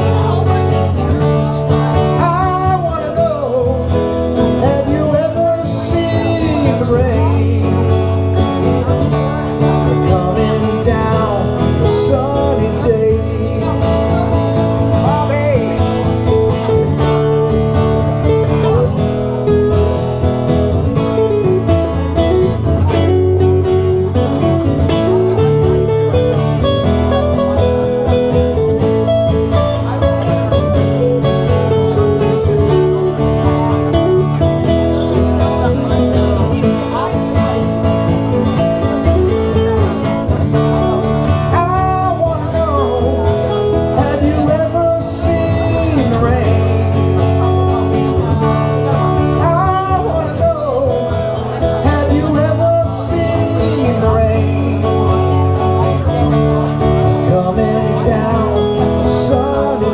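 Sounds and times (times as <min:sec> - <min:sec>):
strummed acoustic guitar: 0:00.0 - 0:59.9.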